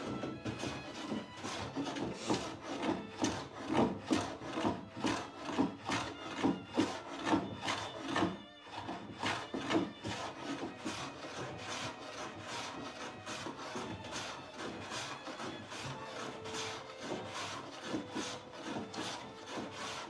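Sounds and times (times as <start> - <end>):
hand plane scraping wood: 0.0 - 20.0.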